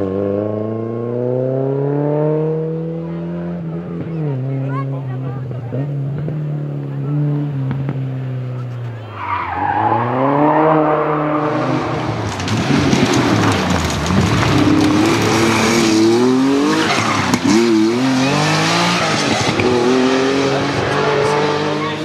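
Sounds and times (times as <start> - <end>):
rally car engine revving: 0.0 - 22.0
tyre and road noise: 0.0 - 22.0.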